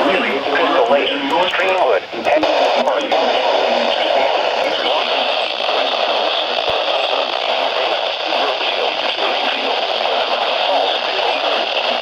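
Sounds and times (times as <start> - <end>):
static hiss: 0.0 - 12.0
synthesized voice on radio: 0.0 - 12.0.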